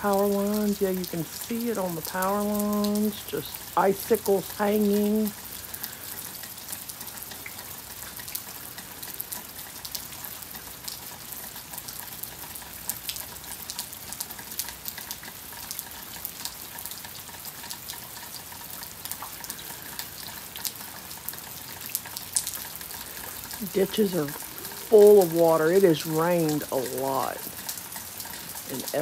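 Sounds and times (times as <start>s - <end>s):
freezing rain pattering on ice: 0.0s - 29.0s.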